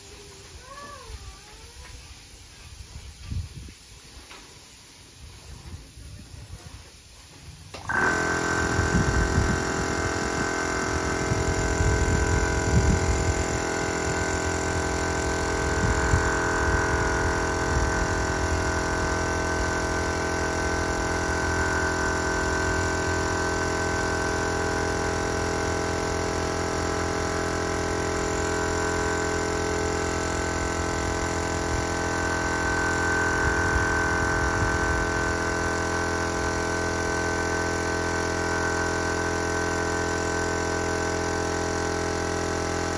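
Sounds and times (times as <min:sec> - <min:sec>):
air compressor humming: 0:00.0 - 0:42.9.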